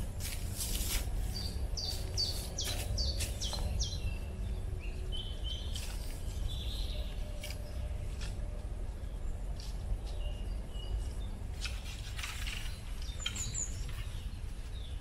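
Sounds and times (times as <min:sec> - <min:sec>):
songbird singing: 0:00.0 - 0:15.0
steady low rumble: 0:00.0 - 0:15.0.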